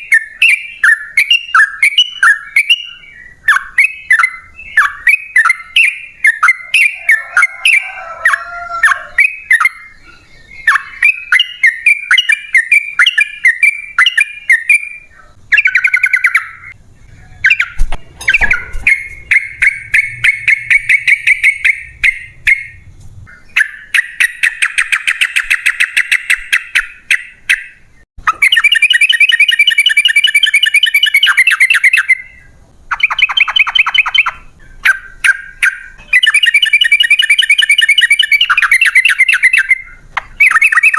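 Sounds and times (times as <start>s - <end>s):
bird singing rolling song: 0.0s - 40.9s.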